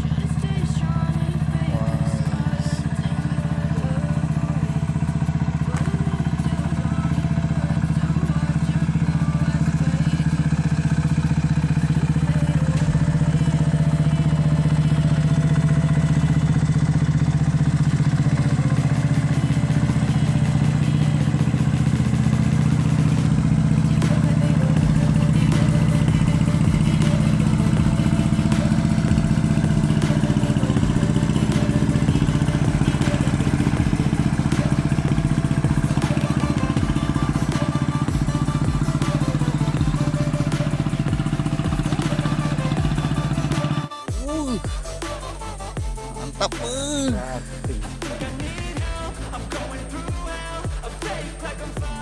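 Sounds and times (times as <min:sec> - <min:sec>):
small motorboat engine droning: 0:00.0 - 0:52.0.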